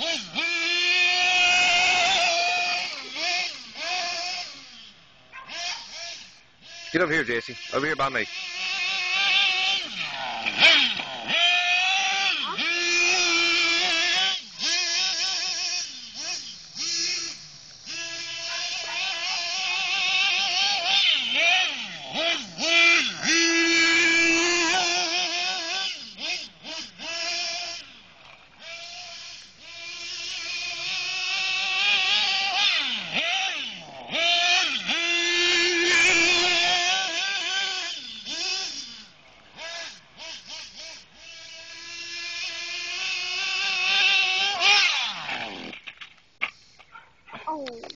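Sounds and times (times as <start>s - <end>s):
toy car motor revving: 0.0s - 47.9s.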